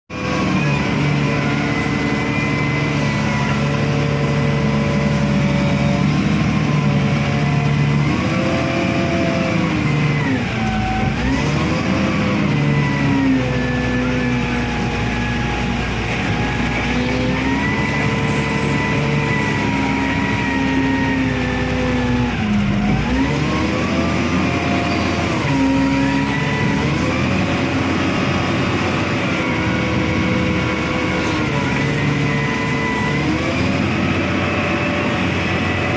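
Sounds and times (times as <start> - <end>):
diesel engine running hard: 0.1 - 35.9.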